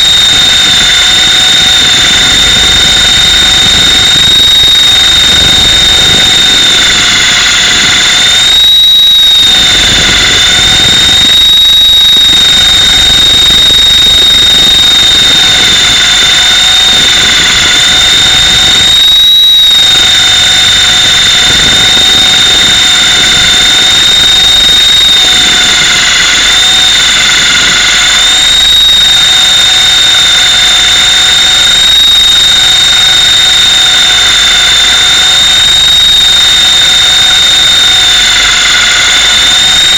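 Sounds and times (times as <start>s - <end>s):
electric motor high-pitched whine: 0.0s - 39.9s
helicopter rotor rushing: 0.0s - 39.9s.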